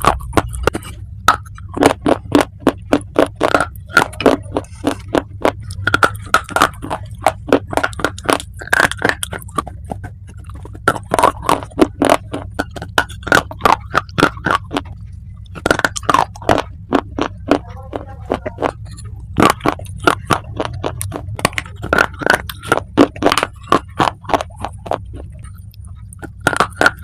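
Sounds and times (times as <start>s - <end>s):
chewing crunchy clay: 0.0s - 27.0s.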